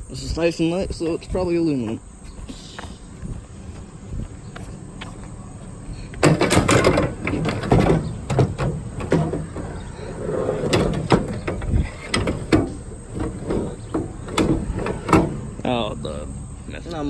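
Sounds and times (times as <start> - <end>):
scrap metal clanking and rattling: 3.3 - 17.0.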